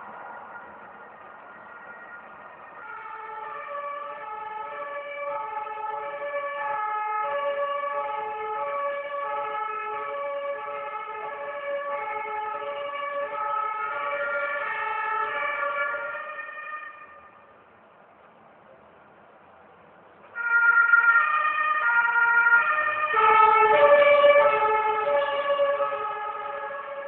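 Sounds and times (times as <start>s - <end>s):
two-tone emergency siren: 0.0s - 17.4s, 20.4s - 27.0s.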